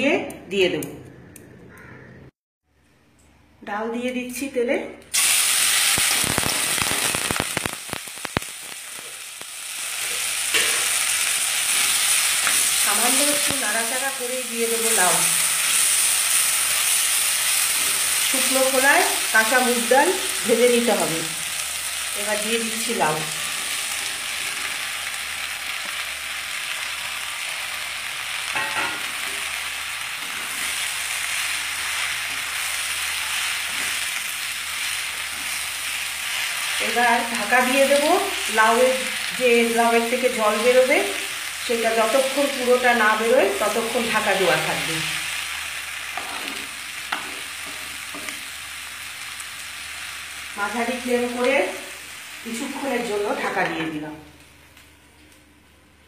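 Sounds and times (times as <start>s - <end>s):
lentils sizzling in hot oil: 5.1s - 54.0s.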